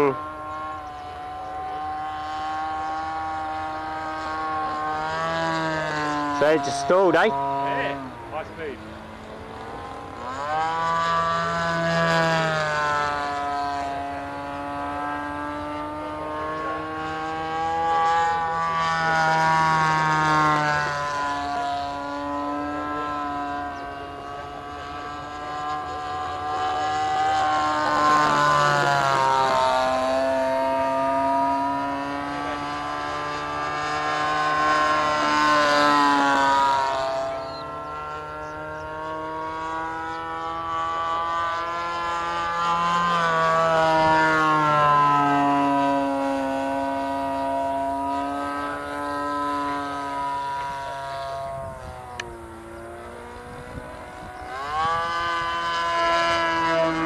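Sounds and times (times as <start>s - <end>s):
model plane engine in flight: 0.0s - 57.0s.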